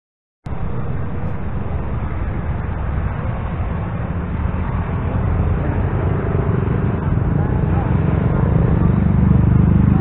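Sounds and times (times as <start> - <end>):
train rumbling: 0.5 - 10.0.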